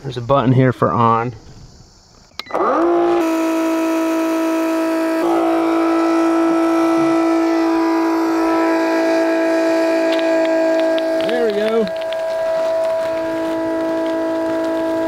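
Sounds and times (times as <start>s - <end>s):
pump motor whining: 2.4s - 15.0s.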